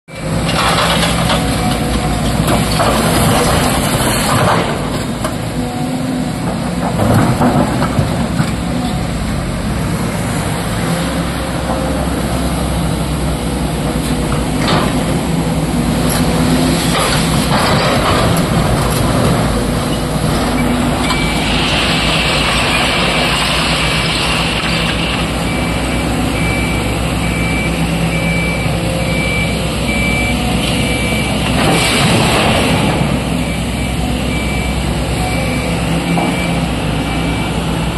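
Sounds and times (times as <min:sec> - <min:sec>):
excavator diesel engine: 0:00.1 - 0:37.9.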